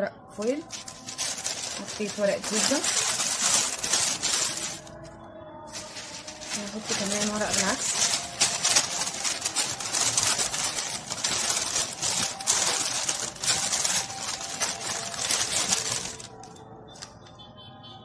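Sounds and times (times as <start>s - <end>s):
parchment paper crinkling: 0.4s - 17.1s.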